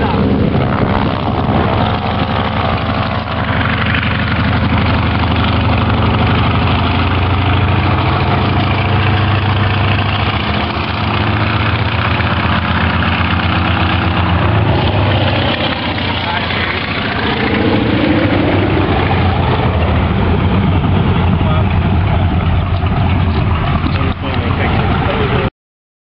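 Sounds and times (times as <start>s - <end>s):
propeller plane engine flying past: 0.0s - 25.5s.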